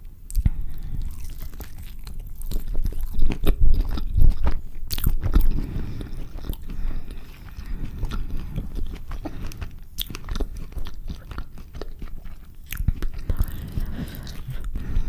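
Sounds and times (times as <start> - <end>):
close chewing: 0.3 - 15.0.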